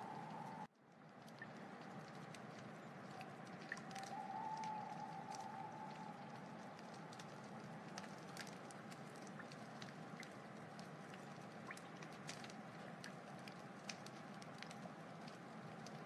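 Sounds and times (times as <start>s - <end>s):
faint steady hum: 0.0s - 16.0s
wood fire crackling and popping: 0.0s - 16.0s.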